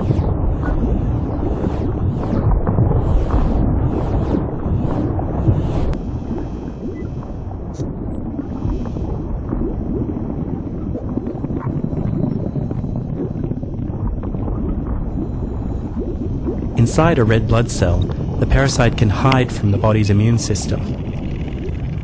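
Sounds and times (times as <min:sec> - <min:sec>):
low rumbling ambient drone: 0:00.0 - 0:22.0.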